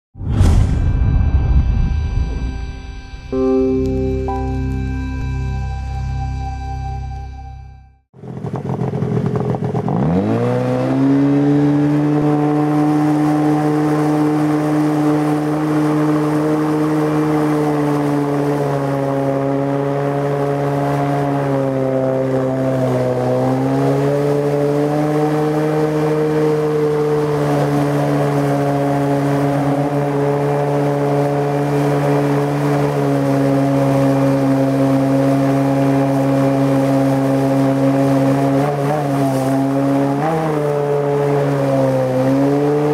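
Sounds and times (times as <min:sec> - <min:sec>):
outboard engine running: 0:08.2 - 0:42.9.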